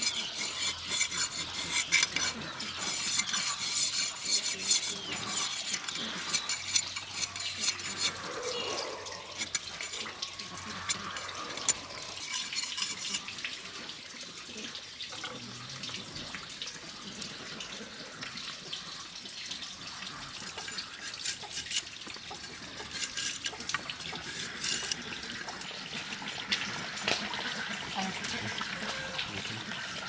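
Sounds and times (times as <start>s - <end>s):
water running into sink: 0.0s - 17.0s, 19.2s - 30.0s.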